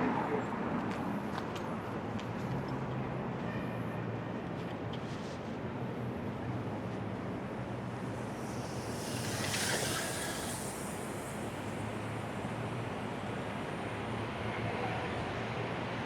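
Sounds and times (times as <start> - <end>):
street noise low rumble: 0.0 - 16.0.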